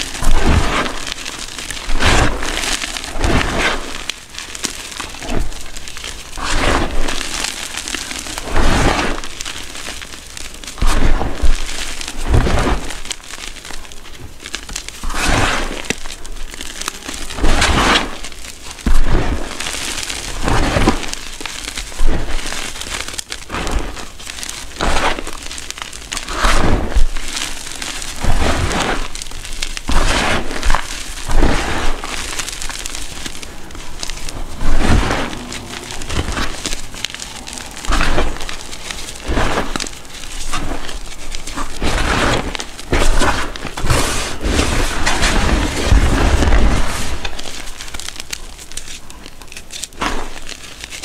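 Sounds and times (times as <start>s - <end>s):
hands crumbling chalk powder: 0.0s - 51.0s.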